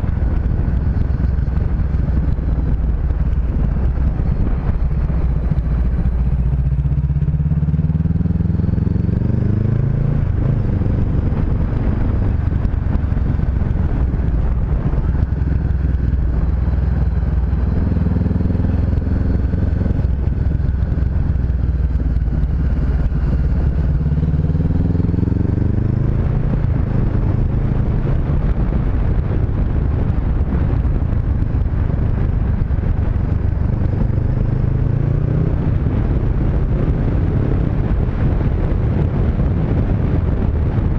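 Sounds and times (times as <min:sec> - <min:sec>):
motorcycle engine accelerating: 0:00.0 - 0:40.9
wind rushing over microphone: 0:00.0 - 0:40.9.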